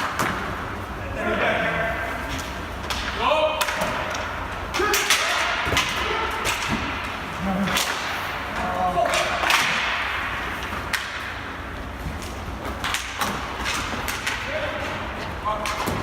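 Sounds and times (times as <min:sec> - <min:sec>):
hockey sticks cracking: 0:02.2 - 0:16.0.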